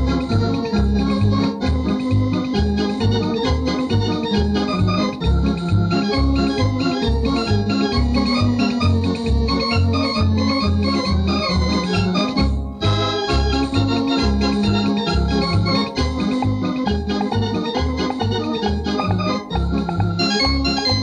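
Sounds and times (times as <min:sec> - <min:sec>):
electronic organ playing: 0:00.0 - 0:21.0.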